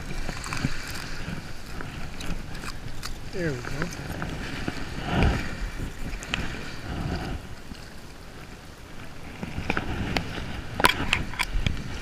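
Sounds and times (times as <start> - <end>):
surf lapping on beach: 0.0 - 12.0
wind buffeting microphone: 0.0 - 12.0.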